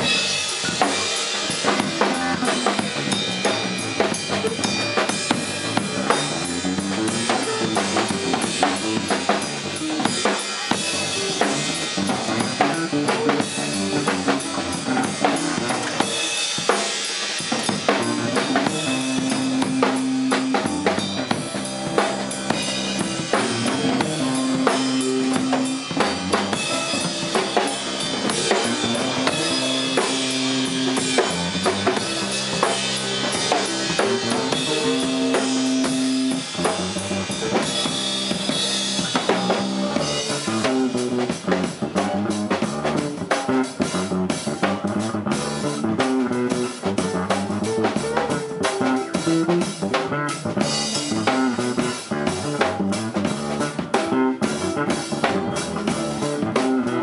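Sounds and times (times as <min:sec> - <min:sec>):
electric bass low notes: 0:00.0 - 0:16.4, 0:17.4 - 0:57.0
busy drumming on drum kit: 0:00.0 - 0:57.0.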